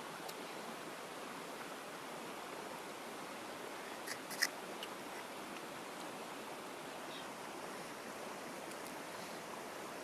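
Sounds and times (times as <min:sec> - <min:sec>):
outdoor ambience hiss: 0:00.0 - 0:10.0.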